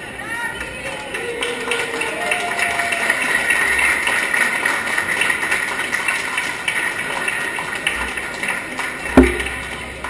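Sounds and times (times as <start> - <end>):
crowd murmur in echoing hall: 0.0 - 10.0.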